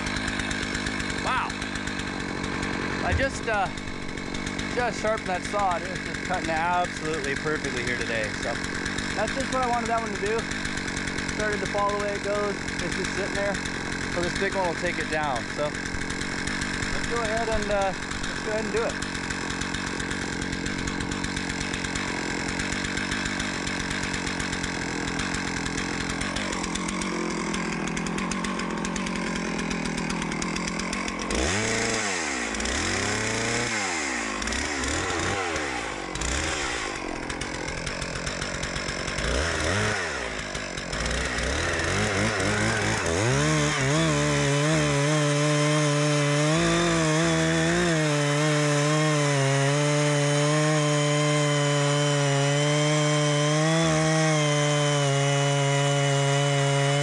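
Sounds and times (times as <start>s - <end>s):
chainsaw cutting a tree: 0.0s - 57.0s.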